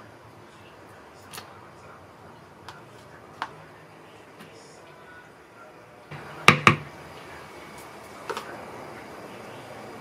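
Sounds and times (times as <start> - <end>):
low room noise: 0.0 - 10.0.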